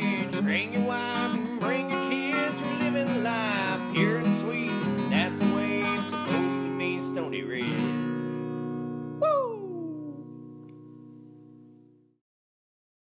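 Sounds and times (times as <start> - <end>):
strummed acoustic guitar: 0.0 - 12.1.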